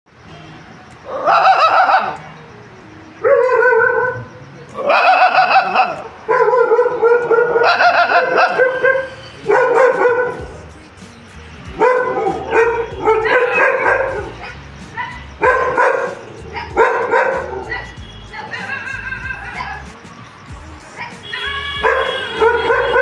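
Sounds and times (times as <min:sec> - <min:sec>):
dog barking high-pitched: 0:01.1 - 0:02.2, 0:03.2 - 0:10.6, 0:11.7 - 0:19.9, 0:21.0 - 0:23.0.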